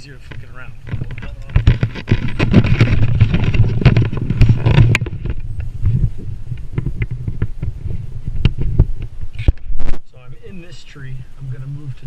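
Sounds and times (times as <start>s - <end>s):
climbing rope rustling and scraping: 0.0s - 9.8s.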